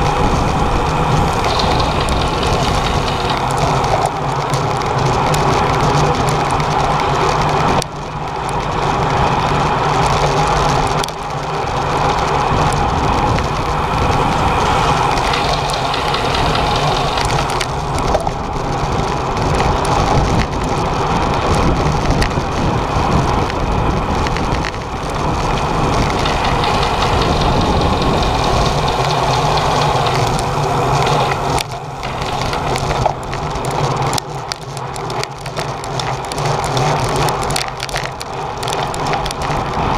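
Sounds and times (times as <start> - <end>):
bicycle road noise: 0.0 - 39.9
wind noise: 0.0 - 39.9.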